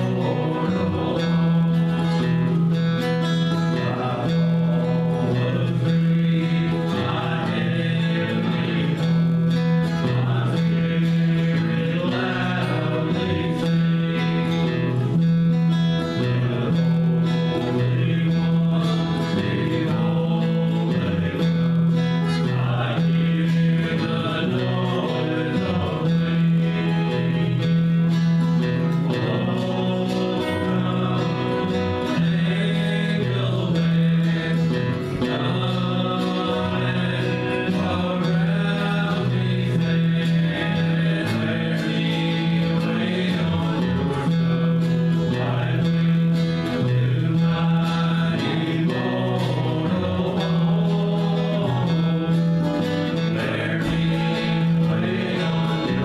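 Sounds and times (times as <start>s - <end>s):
acoustic guitar: 0.0s - 56.0s
bass line: 0.0s - 56.0s
men's vocal group singing: 0.0s - 56.0s.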